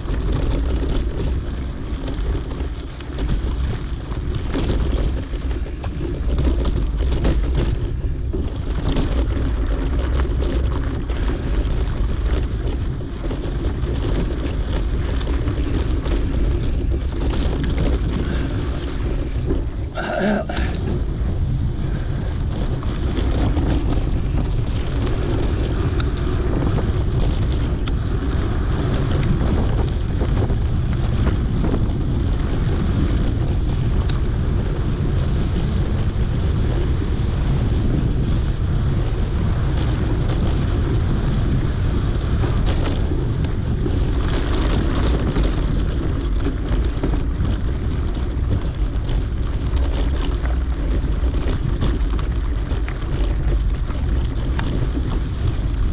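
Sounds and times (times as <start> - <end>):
bike tyres clicking and rattling: 0.0 - 55.9
wind rumbling on microphone: 0.0 - 55.9.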